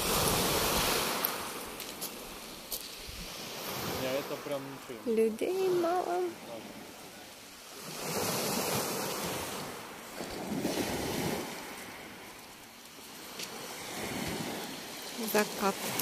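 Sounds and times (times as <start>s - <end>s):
waves washing on pebble beach: 0.0s - 16.0s.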